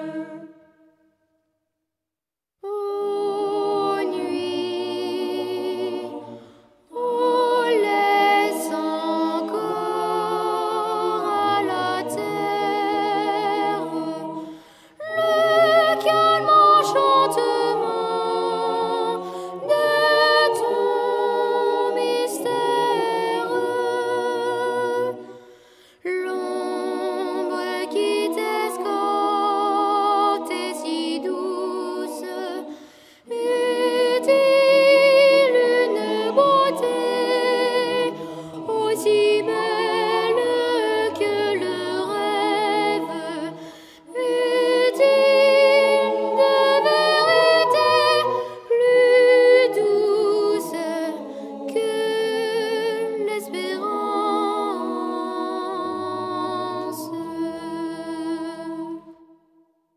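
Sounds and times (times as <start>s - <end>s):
a cappella voices singing: 0.0s - 0.9s, 2.6s - 59.5s.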